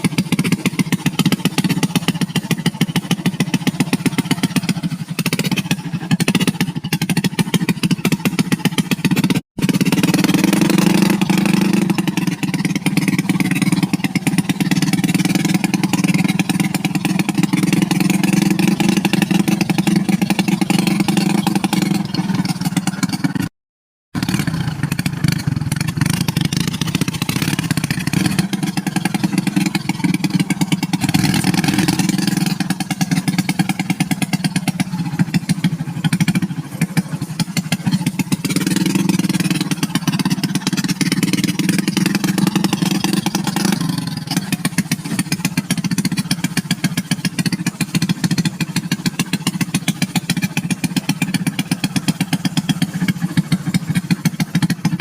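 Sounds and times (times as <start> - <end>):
motorcycle engine running: 0.0 - 23.5, 24.1 - 55.0.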